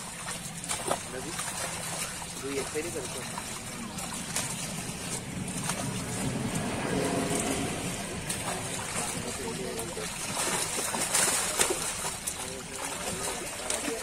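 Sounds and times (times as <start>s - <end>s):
fish splashing into pond: 0.0s - 14.0s
fish thrashing and splashing: 0.0s - 14.0s.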